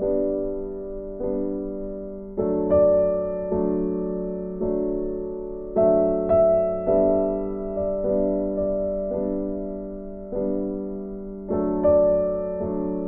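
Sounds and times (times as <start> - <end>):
slow soft piano chords: 0.0 - 13.0.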